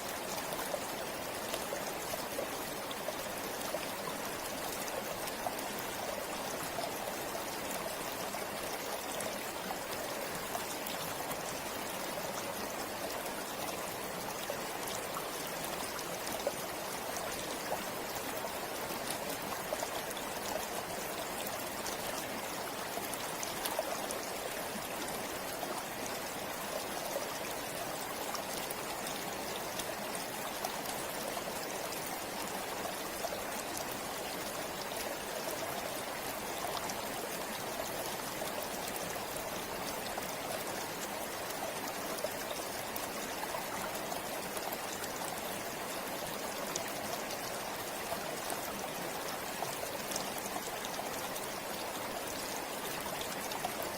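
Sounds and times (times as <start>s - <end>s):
river running over stones: 0.0s - 53.9s.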